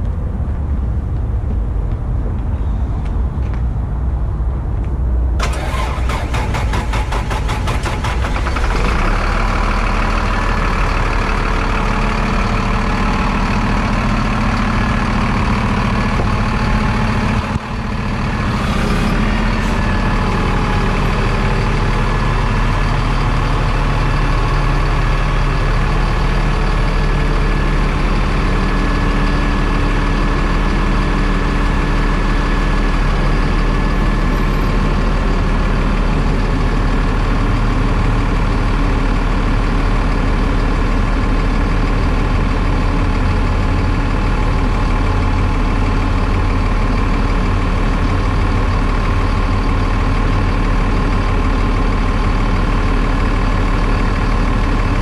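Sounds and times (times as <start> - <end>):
diesel truck engine starting and running: 0.0 - 55.0.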